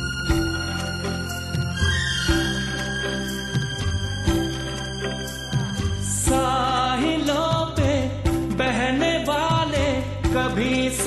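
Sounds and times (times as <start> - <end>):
instrumental film music: 0.0 - 11.0.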